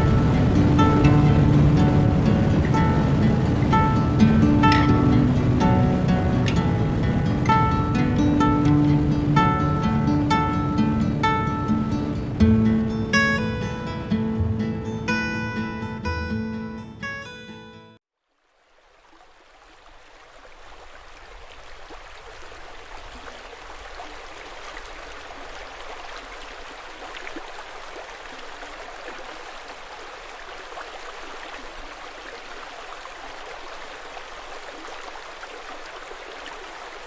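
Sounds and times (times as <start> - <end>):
river water flowing: 0.0 - 37.0.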